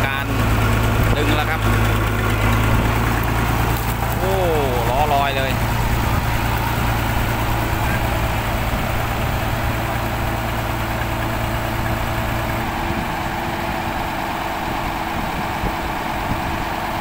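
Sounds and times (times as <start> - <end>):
heavy engine running under load: 0.0 - 17.0
higher-sounding engine: 0.0 - 17.0.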